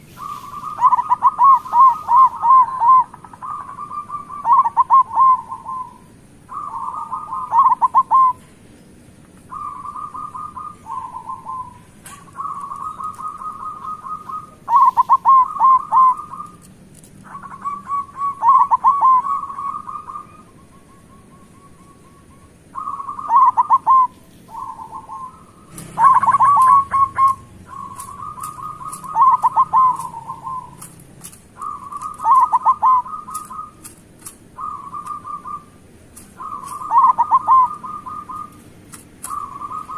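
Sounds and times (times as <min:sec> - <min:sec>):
doves cooing: 0:00.0 - 0:08.6, 0:09.4 - 0:39.9.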